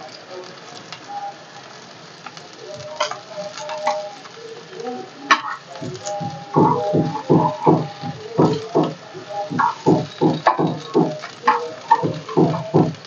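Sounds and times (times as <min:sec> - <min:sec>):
potato slices sizzling in oil: 0:00.0 - 0:13.0.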